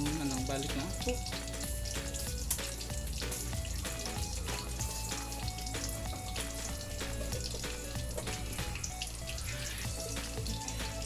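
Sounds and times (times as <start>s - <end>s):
background music with bass: 0.0s - 11.0s
patties sizzling in oil: 0.0s - 11.0s.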